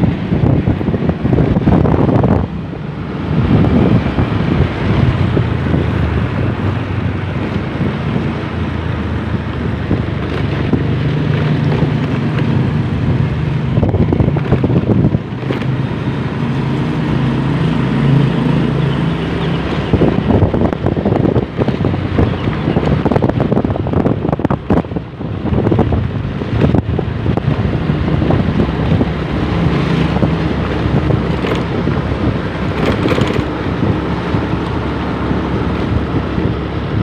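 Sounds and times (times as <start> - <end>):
motorcycle engine running: 0.0 - 37.0
wind noise on microphone: 0.0 - 37.0.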